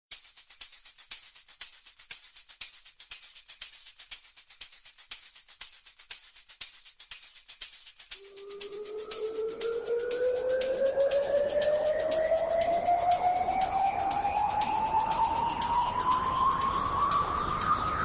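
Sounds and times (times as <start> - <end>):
bright percussion ticking music: 0.1 - 18.0.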